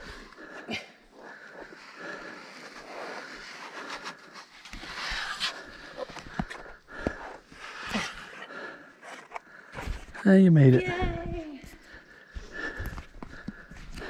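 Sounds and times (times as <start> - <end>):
person breathing hard: 0.0 - 4.5, 5.5 - 10.1, 11.7 - 14.0.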